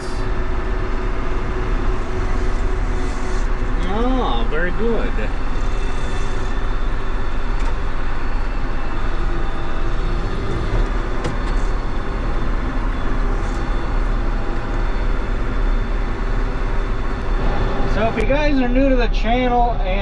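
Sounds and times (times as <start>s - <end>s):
tractor engine running under load: 0.0s - 19.0s.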